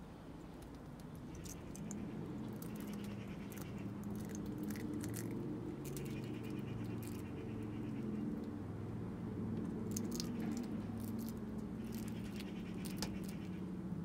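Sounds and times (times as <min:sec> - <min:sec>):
low background hum: 0:00.0 - 0:14.0
squirrel nibbling egg shell: 0:00.2 - 0:14.0.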